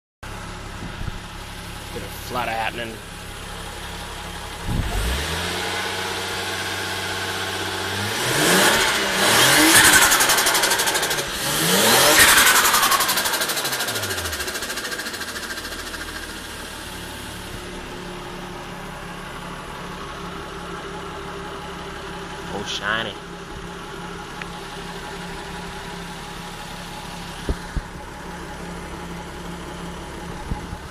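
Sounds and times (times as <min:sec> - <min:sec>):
car engine idling and revving: 0:00.2 - 0:30.9.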